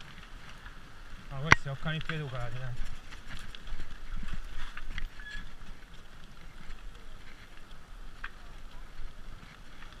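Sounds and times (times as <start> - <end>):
bike tyre noise: 0.0 - 10.0
wind rumble on microphone: 0.0 - 10.0.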